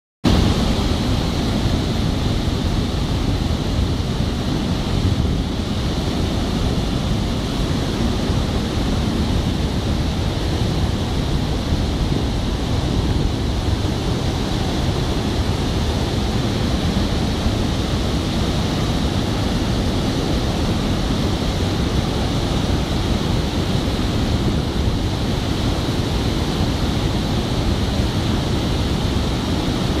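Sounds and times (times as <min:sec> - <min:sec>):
river rushing through rapids: 0:00.3 - 0:30.0.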